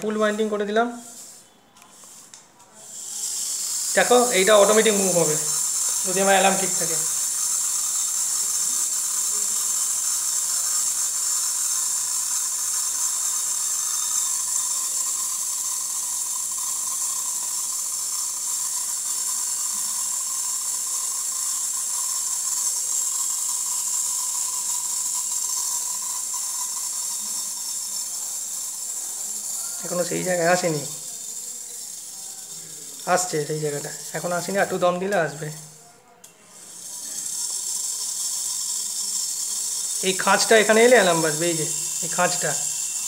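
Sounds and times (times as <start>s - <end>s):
steady hiss: 0.0s - 35.8s, 36.6s - 43.0s
clock movement running: 0.0s - 43.0s.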